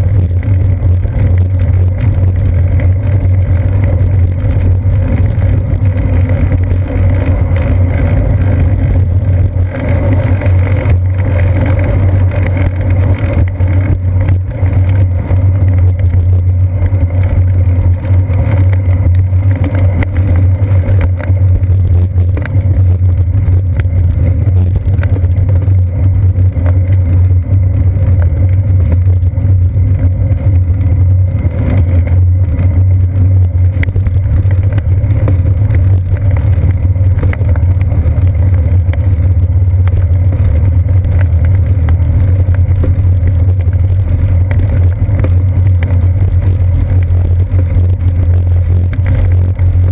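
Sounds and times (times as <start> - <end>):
wind and road rumble: 0.0 - 49.9.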